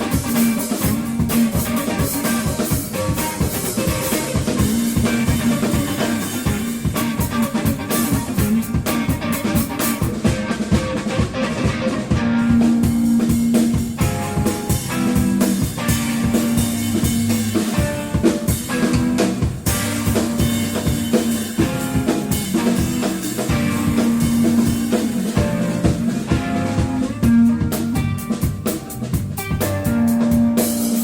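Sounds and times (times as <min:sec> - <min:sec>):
drum kit with rimshots: 0:00.0 - 0:31.0
electric guitar held notes: 0:00.0 - 0:31.0.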